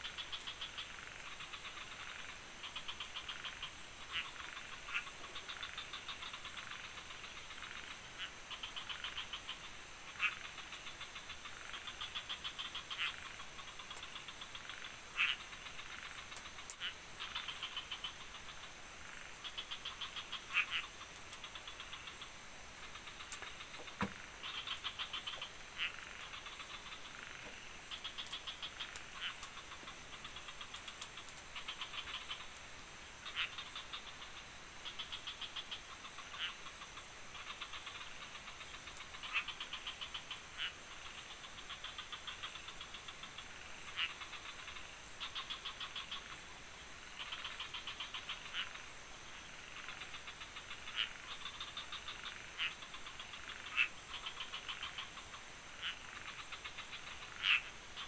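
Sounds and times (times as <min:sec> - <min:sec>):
frogs calling: 0:00.0 - 0:58.0.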